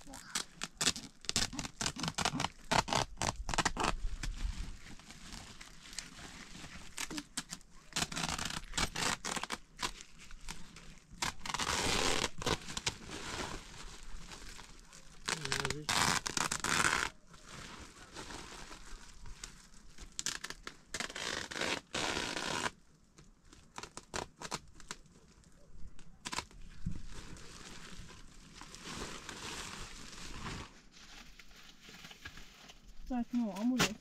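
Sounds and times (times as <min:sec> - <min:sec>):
rustling and crinkling: 0:00.0 - 0:34.0.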